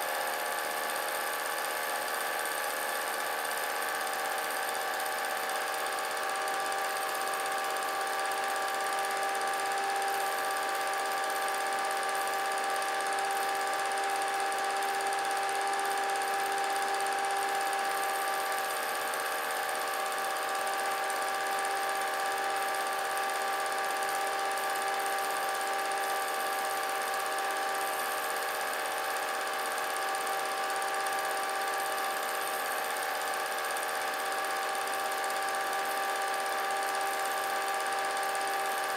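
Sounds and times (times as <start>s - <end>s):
small motor whirring: 0.0s - 38.9s.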